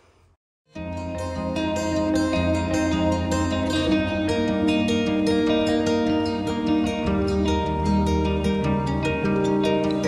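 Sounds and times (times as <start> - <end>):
instrumental music: 0.7 - 10.0.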